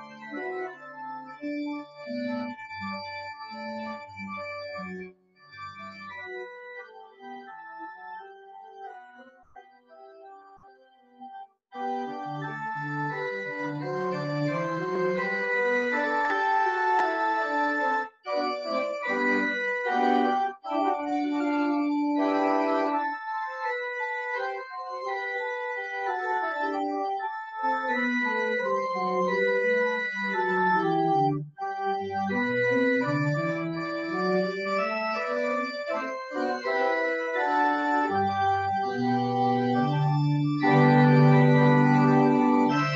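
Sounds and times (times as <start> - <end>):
organ playing chords and melody: 0.0 - 42.9.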